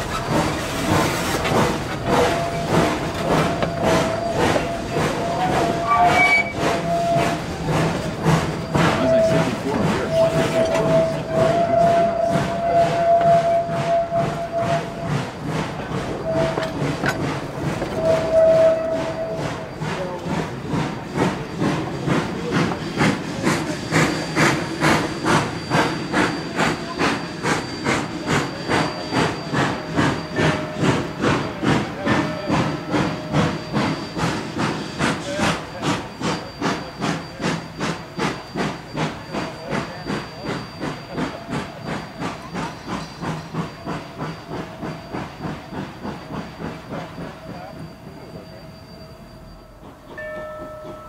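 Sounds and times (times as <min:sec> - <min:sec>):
steam hissing: 0:00.0 - 0:51.0
steam locomotive chuffing: 0:00.0 - 0:51.0.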